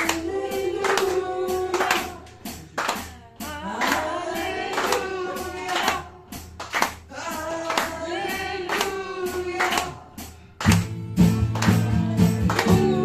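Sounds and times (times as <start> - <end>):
acoustic guitar: 0.0 - 13.0
foot-played drum kit: 0.0 - 13.0.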